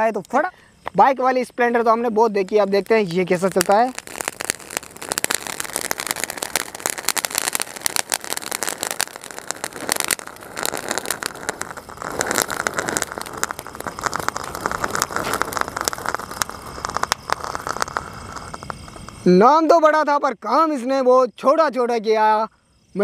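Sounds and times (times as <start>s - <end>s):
firework fountain hissing and crackling: 0.0s - 20.0s.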